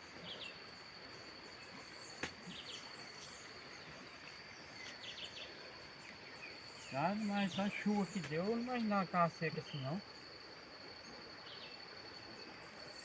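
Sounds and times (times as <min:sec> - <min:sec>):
bird or insect chirps: 0:00.0 - 0:13.0.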